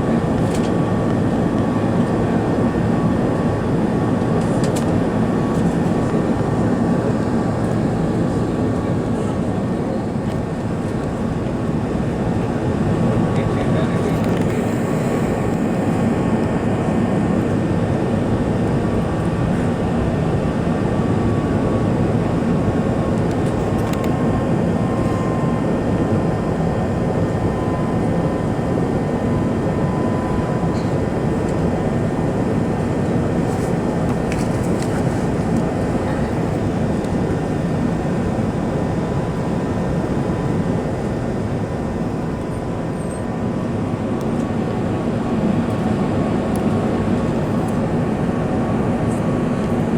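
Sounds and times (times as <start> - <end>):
airliner engine rush in flight: 0.0 - 49.9
faint steady whine: 0.0 - 49.9.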